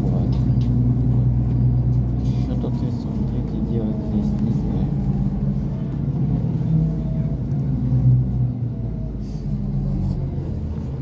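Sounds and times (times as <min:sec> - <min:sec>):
bus engine drone: 0:00.0 - 0:11.0
tyre road noise: 0:00.0 - 0:11.0.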